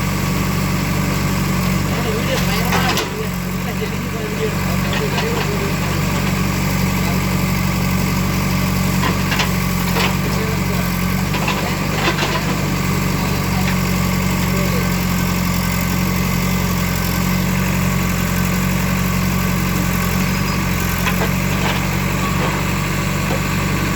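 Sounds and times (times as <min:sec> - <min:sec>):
demolition machinery engine running: 0:00.0 - 0:23.9.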